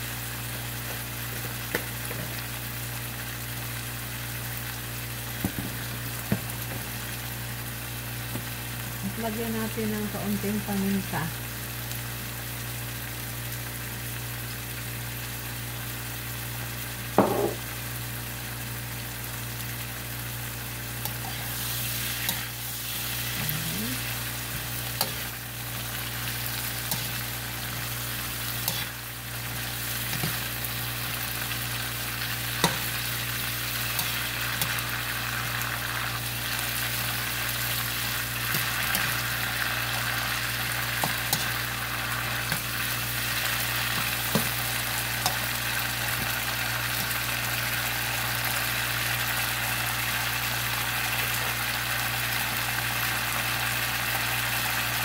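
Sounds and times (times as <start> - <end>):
food sizzling in a wok: 0.0 - 55.0.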